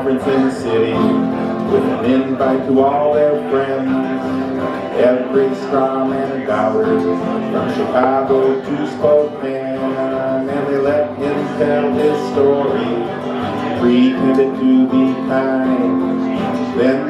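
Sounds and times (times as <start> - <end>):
two acoustic guitars playing: 0.0 - 17.0.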